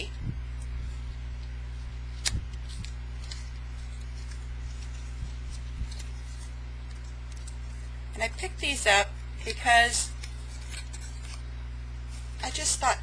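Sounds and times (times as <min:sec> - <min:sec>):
desk fan humming: 0:00.0 - 0:13.0.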